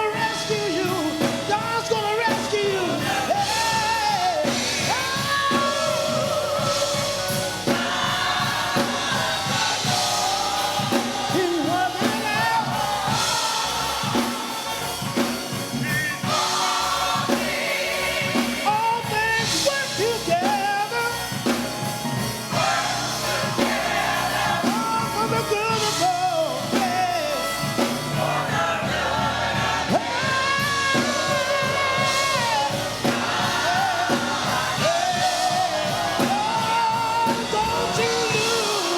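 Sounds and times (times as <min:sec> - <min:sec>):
backing instruments: 0:00.0 - 0:38.9
church choir singing gospel: 0:00.0 - 0:38.9
drum beat: 0:00.0 - 0:38.9.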